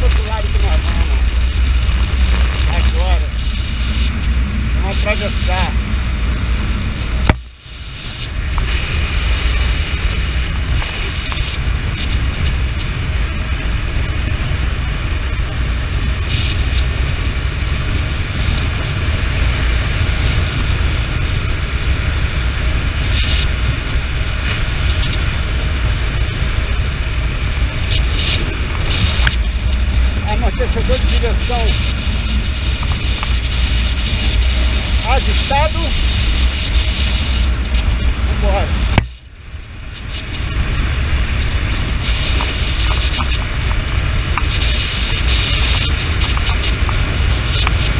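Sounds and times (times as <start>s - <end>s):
motorcycle engine: 0.0s - 47.9s
road noise: 0.0s - 47.9s
wind buffeting microphone: 0.0s - 47.9s.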